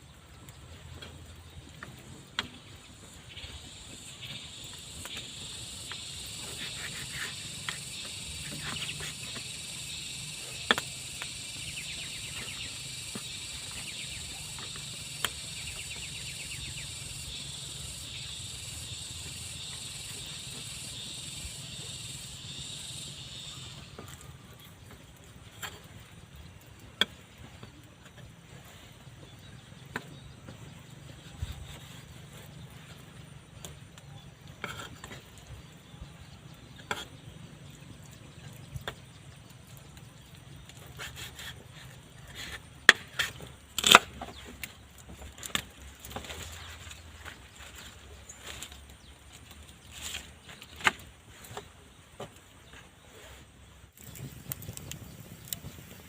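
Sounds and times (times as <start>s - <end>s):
insects buzzing: 0.4s - 56.0s.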